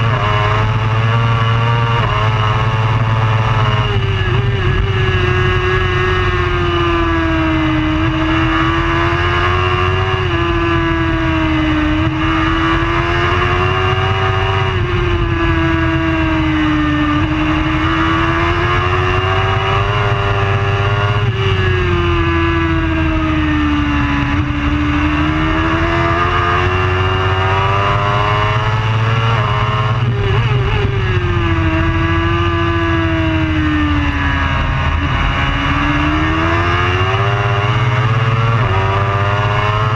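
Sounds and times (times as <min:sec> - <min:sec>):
racing motorbike engine high revs: 0:00.0 - 0:39.9.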